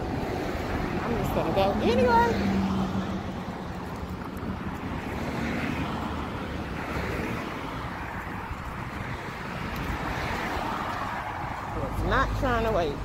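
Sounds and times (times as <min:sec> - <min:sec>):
wind on microphone: 0:00.0 - 0:11.8
road traffic rushing: 0:00.0 - 0:13.0.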